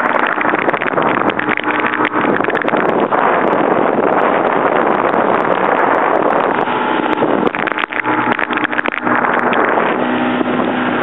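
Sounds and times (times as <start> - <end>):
faint boat motor hum: 0.0 - 11.0
water rushing against boat: 0.0 - 11.0
wind rushing: 0.0 - 11.0.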